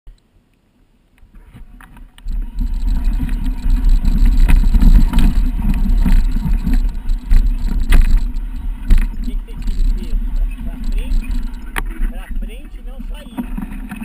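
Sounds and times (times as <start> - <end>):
wind rumbling on microphone: 1.1 - 14.0
bike knocks and rattles: 1.3 - 14.0.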